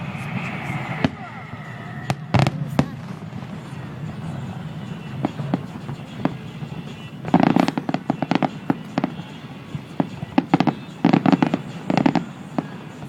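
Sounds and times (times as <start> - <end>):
fireworks bangs and cracks: 2.0 - 13.0.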